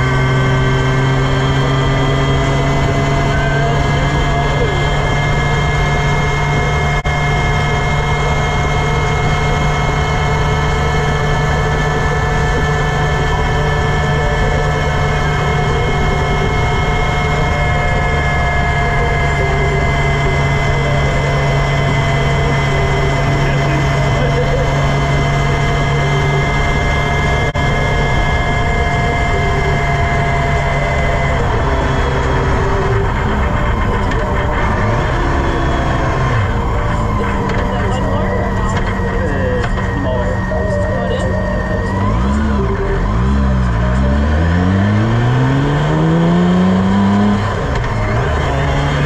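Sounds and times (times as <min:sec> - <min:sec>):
road and wind noise: 0:00.0 - 0:49.0
vehicle engine droning: 0:00.0 - 0:49.0.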